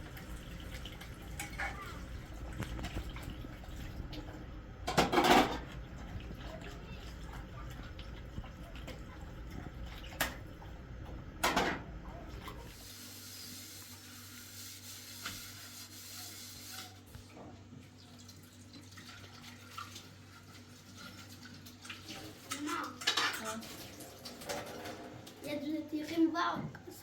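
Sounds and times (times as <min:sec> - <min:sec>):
water running: 0:00.0 - 0:27.0.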